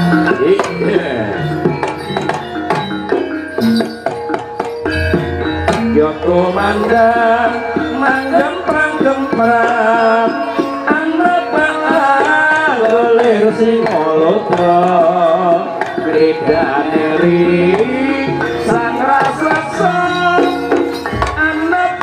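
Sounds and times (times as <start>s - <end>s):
hand drums beating: 0.0s - 22.0s
ornamented melody line: 0.0s - 22.0s.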